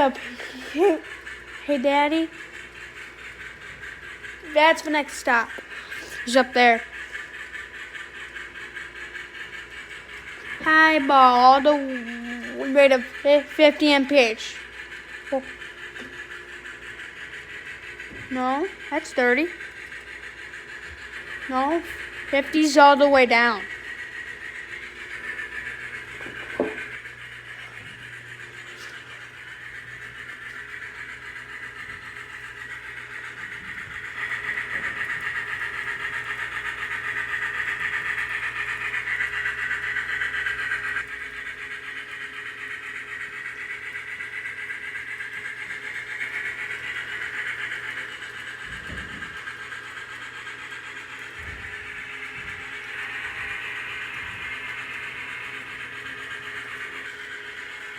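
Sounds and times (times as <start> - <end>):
model locomotive steam hiss: 0.0 - 57.9.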